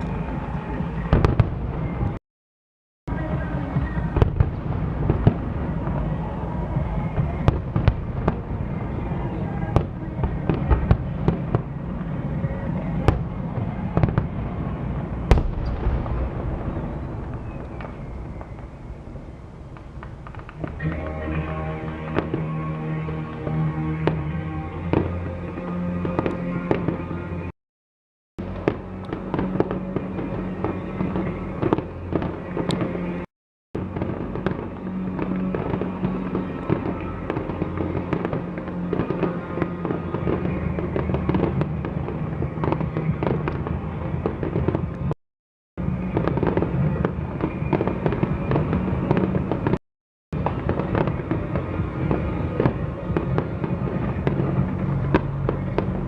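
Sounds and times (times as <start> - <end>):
fireworks bangs and crackles: 0.0 - 2.2, 3.1 - 27.5, 28.4 - 45.2, 45.8 - 56.0.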